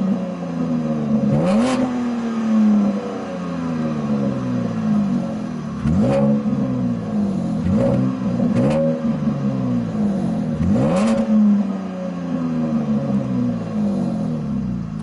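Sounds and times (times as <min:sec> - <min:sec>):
engine revving and idling: 0:00.0 - 0:15.0.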